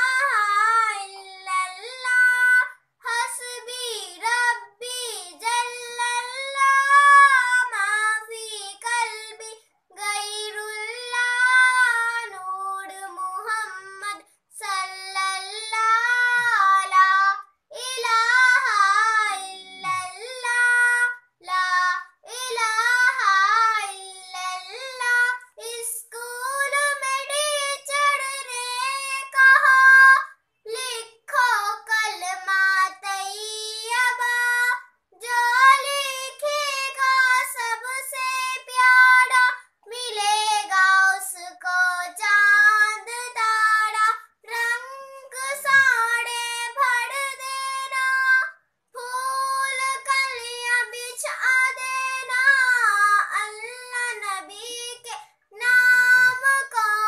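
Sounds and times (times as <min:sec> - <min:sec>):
girl singing unaccompanied: 0:00.0 - 0:57.0.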